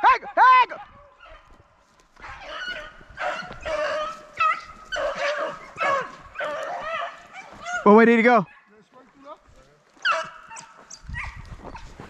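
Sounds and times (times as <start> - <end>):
beagles baying: 0.8 - 8.7, 10.0 - 11.9.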